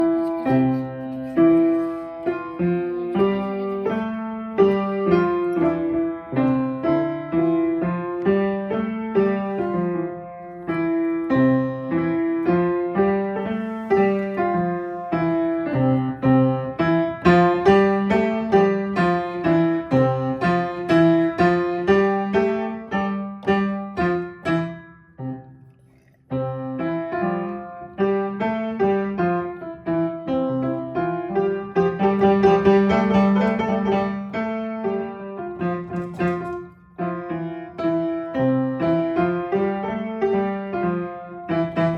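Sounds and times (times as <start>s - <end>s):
piano playing loudly: 0.0s - 41.9s.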